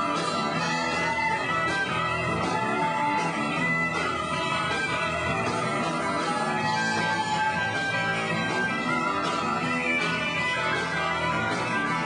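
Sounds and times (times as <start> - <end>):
electric guitar: 0.0 - 12.0
live rock band playing: 0.0 - 12.0.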